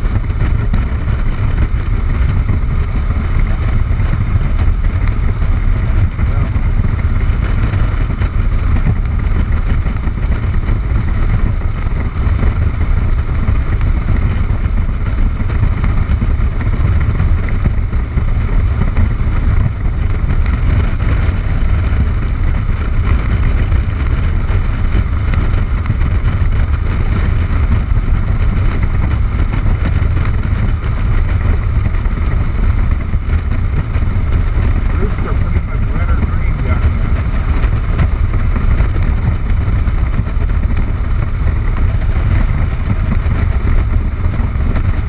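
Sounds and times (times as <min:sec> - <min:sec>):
motorcycle riding at speed: 0:00.0 - 0:45.0.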